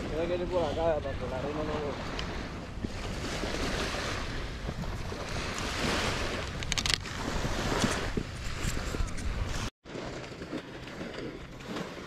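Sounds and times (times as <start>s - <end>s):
wind buffeting microphone: 0.0s - 9.7s
sea water washing: 0.0s - 12.0s.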